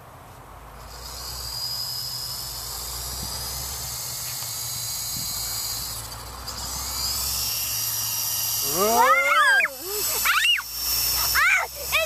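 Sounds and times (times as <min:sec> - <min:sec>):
low rotor hum: 0:00.0 - 0:12.0
toy helicopter motor whine: 0:00.6 - 0:12.0.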